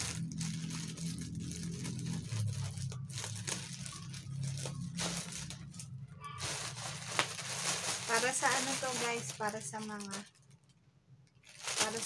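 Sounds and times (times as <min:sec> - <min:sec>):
plastic mailer crinkling and tearing: 0:00.0 - 0:10.6, 0:11.3 - 0:12.0
sharp plastic crackles: 0:00.0 - 0:12.0.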